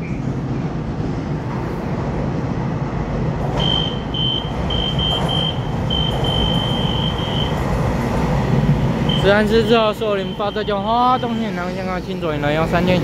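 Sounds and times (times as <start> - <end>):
electric train low rumble: 0.0 - 13.0.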